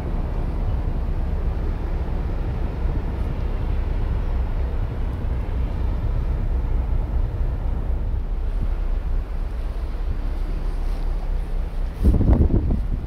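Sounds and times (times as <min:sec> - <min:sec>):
ferry engines rumbling: 0:00.0 - 0:13.0.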